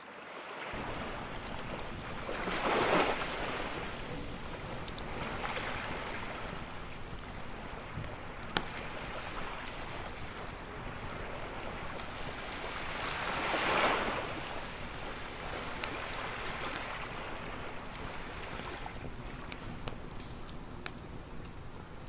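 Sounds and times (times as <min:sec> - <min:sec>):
campfire crackling: 0:00.0 - 0:22.0
ocean waves washing on beach: 0:00.0 - 0:22.0.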